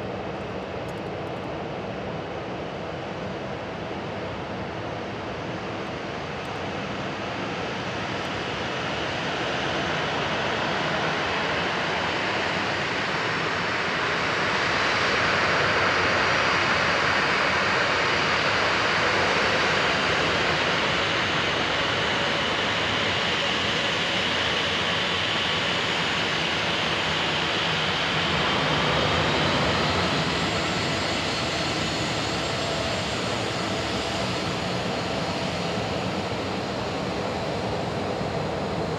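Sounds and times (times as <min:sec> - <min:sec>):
jet engines at take-off: 0:00.0 - 0:38.9.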